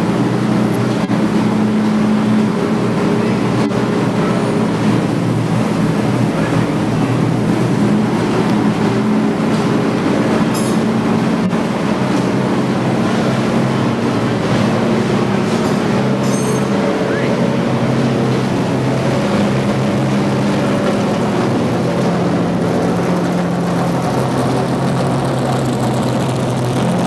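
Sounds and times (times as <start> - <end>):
race car engine idling: 0.0 - 27.0.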